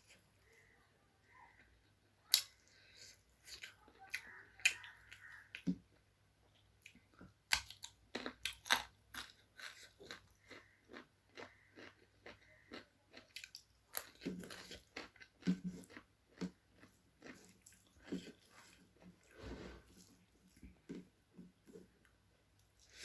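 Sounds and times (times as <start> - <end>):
person chewing food: 1.4 - 23.0.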